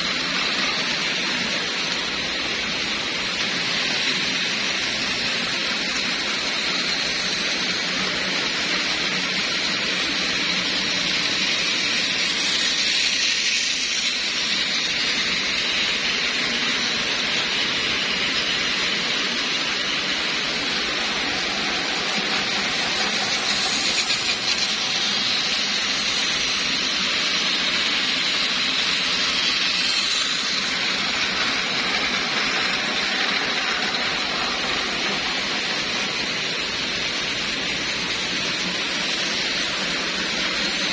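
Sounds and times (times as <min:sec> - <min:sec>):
toy train motors whirring: 0:00.0 - 0:40.9.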